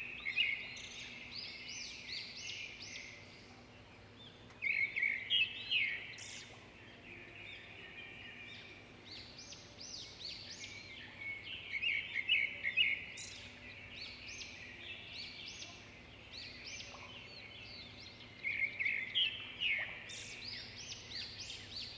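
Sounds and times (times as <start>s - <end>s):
songbirds chirping and singing: 0.0s - 21.9s.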